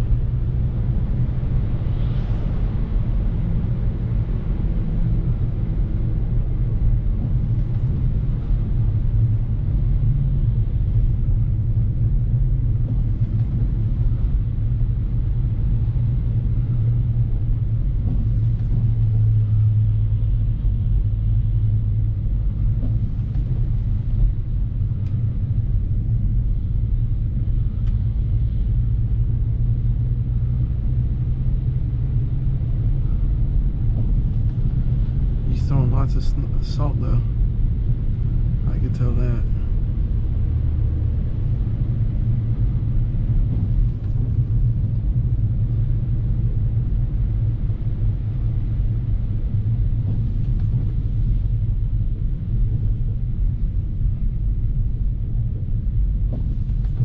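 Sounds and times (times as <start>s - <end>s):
car engine and tyres droning: 0.0s - 57.0s.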